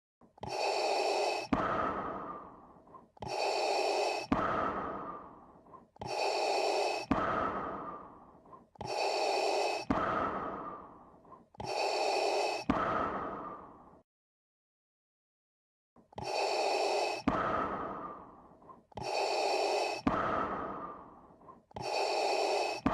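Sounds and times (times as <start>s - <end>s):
breathing through gas mask: 0.4s - 14.0s, 16.1s - 22.9s.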